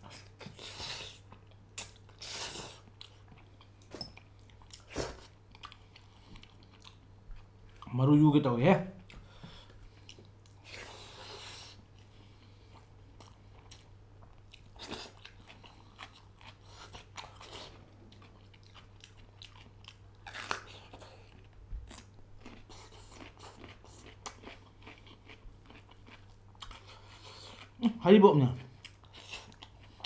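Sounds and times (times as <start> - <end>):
man chewing with wet smacks: 0.0 - 8.0, 9.0 - 30.0.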